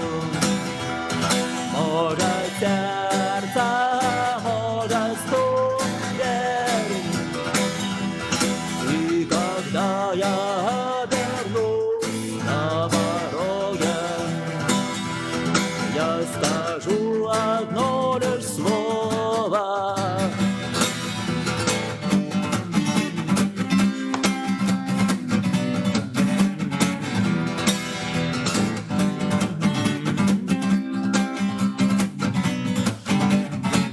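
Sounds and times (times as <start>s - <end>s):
rock guitar music: 0.0s - 33.9s.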